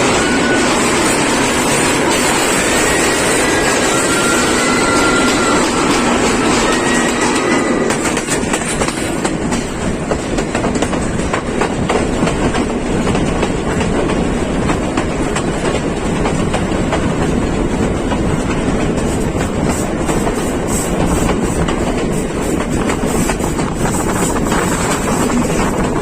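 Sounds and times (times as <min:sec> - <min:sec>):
train wheels clattering: 0:00.0 - 0:26.0.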